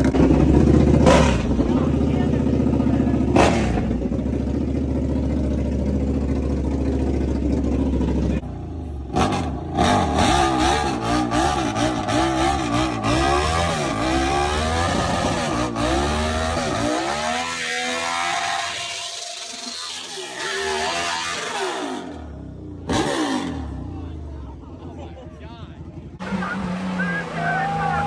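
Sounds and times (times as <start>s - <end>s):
truck engine revving: 0.0s - 24.8s, 25.8s - 28.0s.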